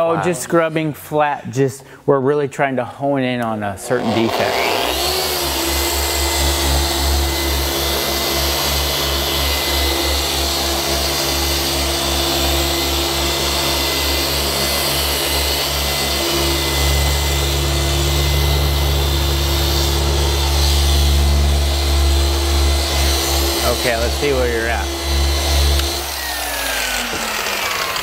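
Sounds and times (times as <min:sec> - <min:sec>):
machine polisher motor whir: 0:03.9 - 0:28.0.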